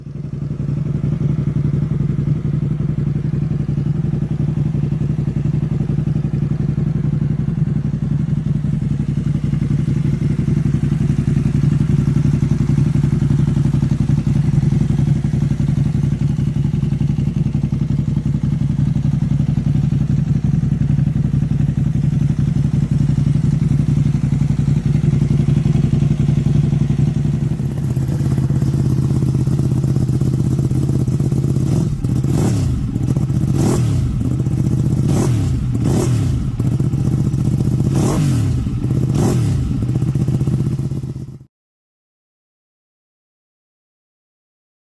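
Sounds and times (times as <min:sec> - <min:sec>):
motorcycle engine idling: 0:00.0 - 0:41.5.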